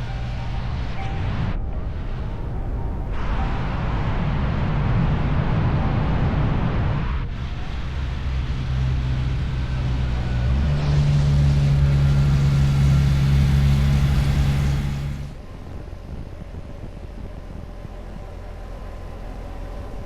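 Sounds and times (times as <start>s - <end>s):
wind rush: 0.0s - 19.1s.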